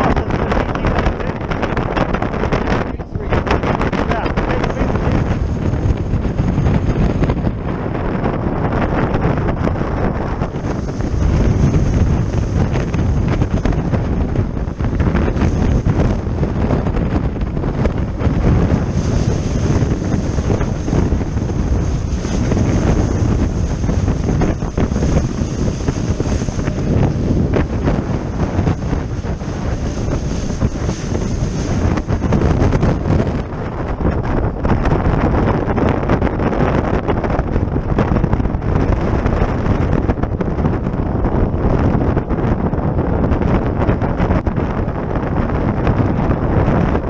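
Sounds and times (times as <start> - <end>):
water rushing past hulls: 0.0 - 40.9
wind buffeting microphone: 0.0 - 47.0.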